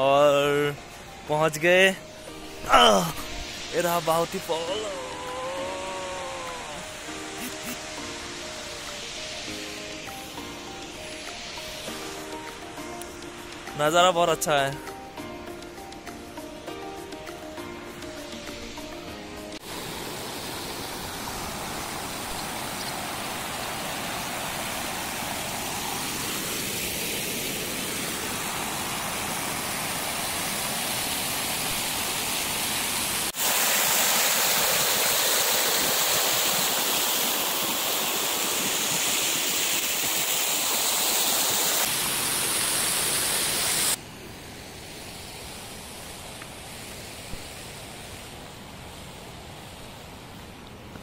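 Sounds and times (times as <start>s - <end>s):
river water rushing over rocks: 0.0s - 14.8s, 18.0s - 51.0s.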